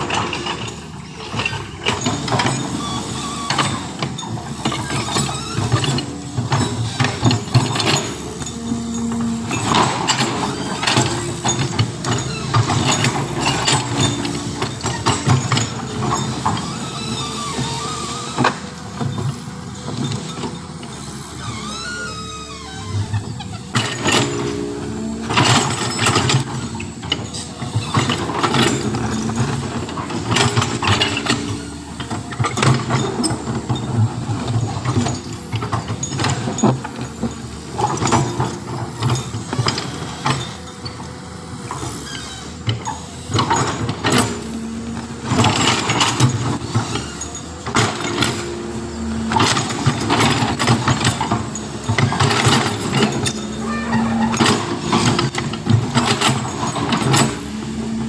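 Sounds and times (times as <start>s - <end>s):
metallic clanks and rattles: 0.0s - 2.8s, 3.5s - 21.1s, 22.6s - 41.1s, 41.7s - 58.0s
heavy diesel machinery working: 0.0s - 58.0s.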